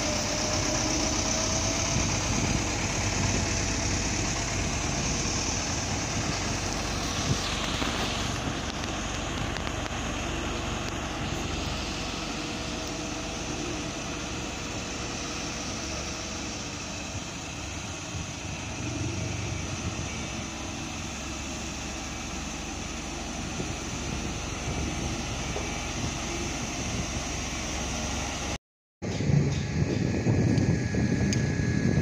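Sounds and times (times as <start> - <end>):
truck and machinery engines: 0.0 - 32.0.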